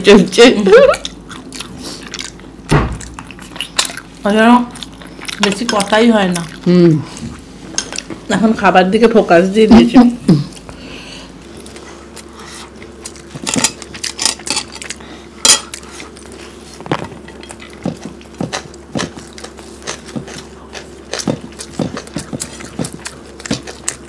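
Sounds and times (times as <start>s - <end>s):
faint steady hum: 0.0s - 24.0s
chewing and mouth sounds: 0.9s - 8.3s, 11.4s - 24.0s.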